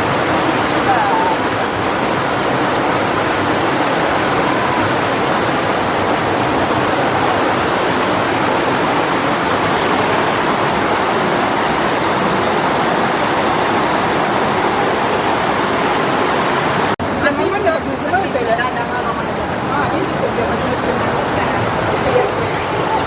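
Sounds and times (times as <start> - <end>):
fast-flowing stream water: 0.0 - 23.0.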